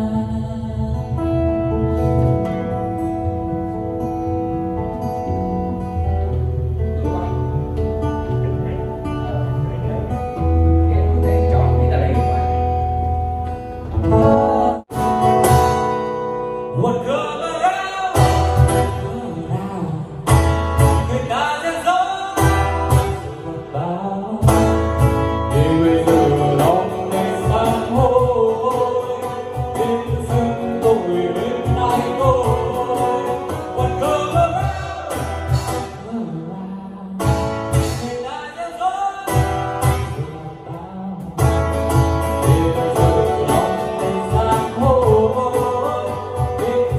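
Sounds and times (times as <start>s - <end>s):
pop song over loudspeakers: 0.0s - 46.9s.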